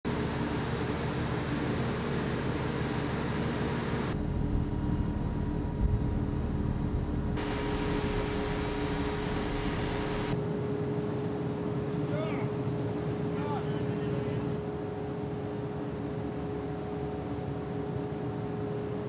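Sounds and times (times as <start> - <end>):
ship machinery drone: 0.1 - 19.0.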